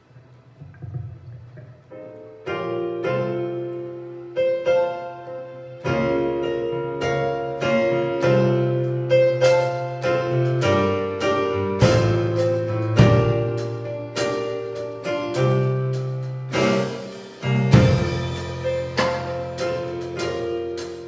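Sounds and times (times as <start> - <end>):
piano playing slow chords: 1.6 - 21.0.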